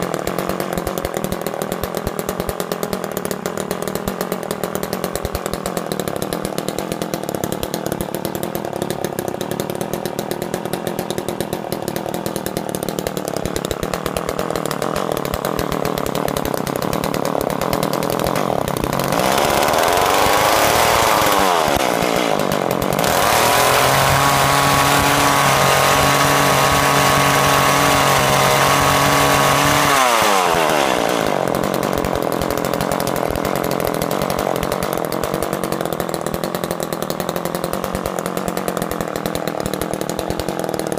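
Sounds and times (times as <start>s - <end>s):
two-stroke engine idling and revving: 0.0s - 40.9s.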